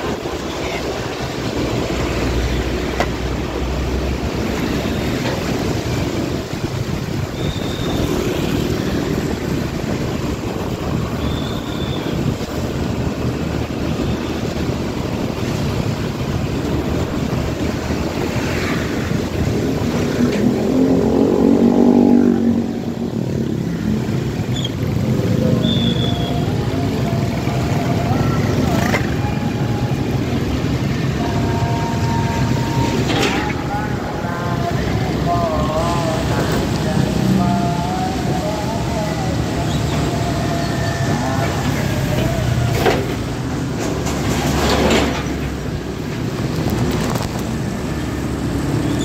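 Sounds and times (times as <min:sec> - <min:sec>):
passing vehicle engine drone: 0:00.0 - 0:49.0
scooter engine and road noise: 0:00.0 - 0:49.0.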